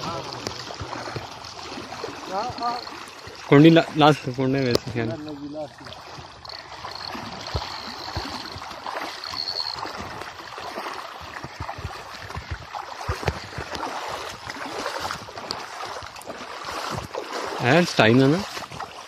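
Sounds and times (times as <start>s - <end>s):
feet sloshing through water: 0.0s - 19.0s.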